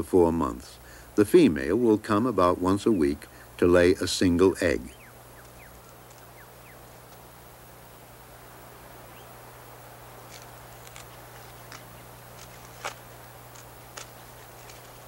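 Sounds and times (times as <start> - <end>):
faint outdoor ambience: 0.0 - 15.0
steady low hum: 0.0 - 15.0.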